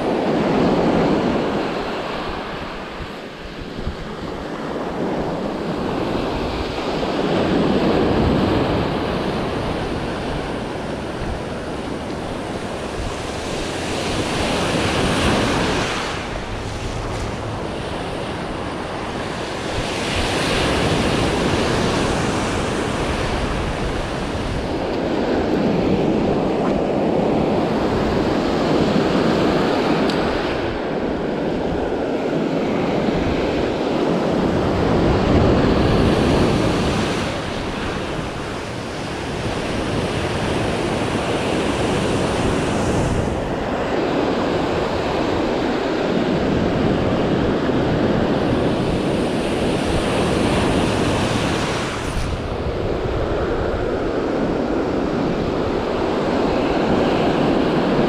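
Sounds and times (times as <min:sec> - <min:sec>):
surf breaking on beach: 0:00.0 - 0:58.0
wind buffeting microphone: 0:00.0 - 0:58.0.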